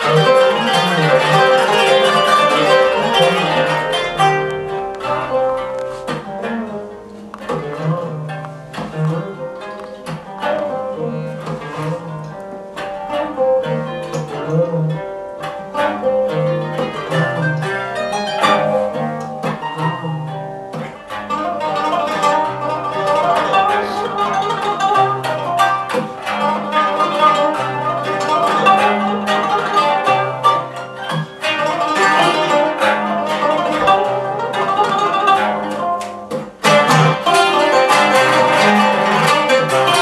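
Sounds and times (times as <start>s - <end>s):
plucked-string melody: 0.0s - 40.0s.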